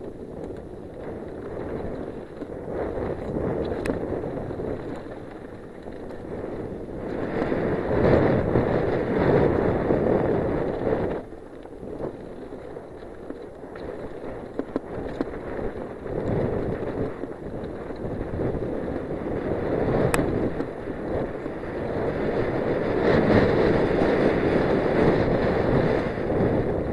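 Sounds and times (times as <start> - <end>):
bike clicks and rattles: 0.0 - 26.9
bike tyres rolling on dirt: 0.0 - 26.9
wind on microphone: 0.0 - 26.9.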